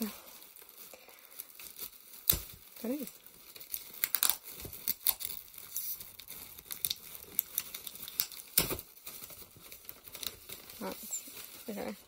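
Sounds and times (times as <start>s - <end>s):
paper and plastic crinkling: 0.0s - 12.0s.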